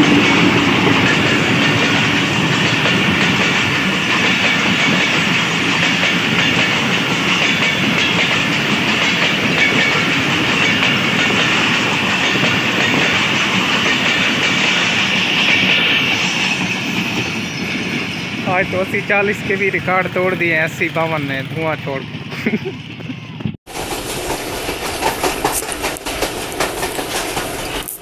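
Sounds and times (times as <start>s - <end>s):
train wheels running over rails: 0.0s - 28.0s.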